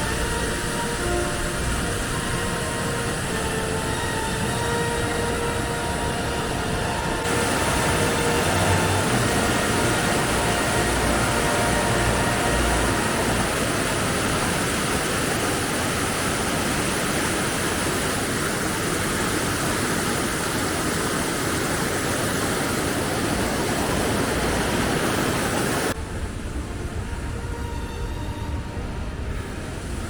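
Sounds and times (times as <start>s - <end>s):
rush of falling water: 0.0s - 26.4s.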